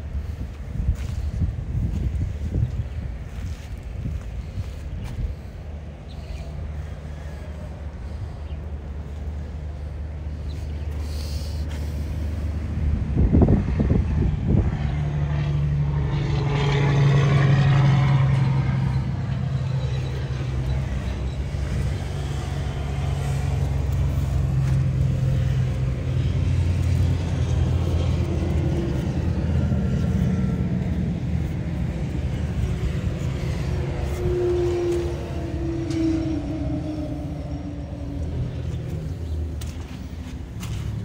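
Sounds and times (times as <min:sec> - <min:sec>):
low engine drone: 0:00.0 - 0:41.0.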